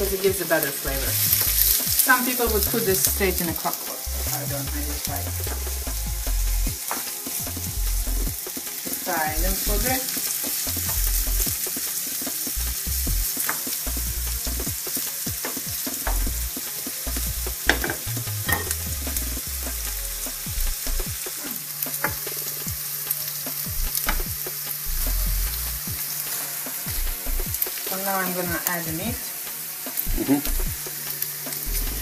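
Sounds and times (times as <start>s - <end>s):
onions and bacon sizzling in a pan: 0.0s - 32.0s.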